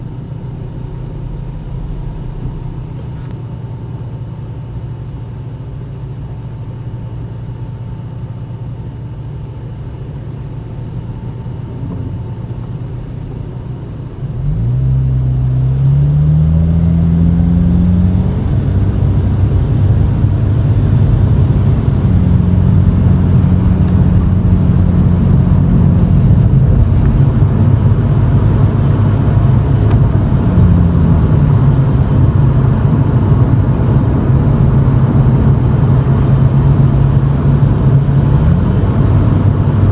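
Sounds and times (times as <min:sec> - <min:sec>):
car exhaust rumbling: 0:00.0 - 0:39.9.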